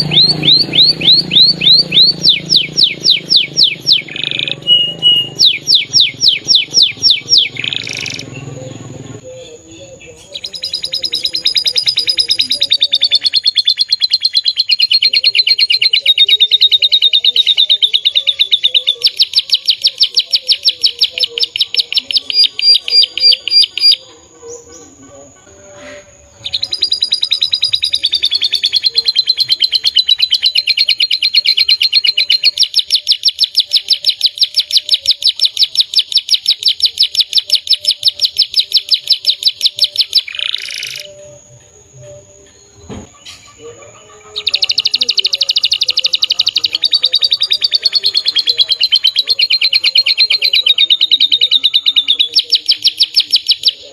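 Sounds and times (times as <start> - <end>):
canary trilling: 0.0 - 53.9.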